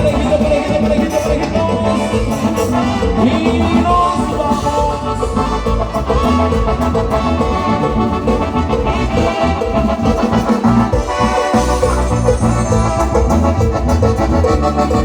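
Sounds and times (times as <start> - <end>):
bass line: 0.0 - 15.0
live band playing: 0.0 - 15.0.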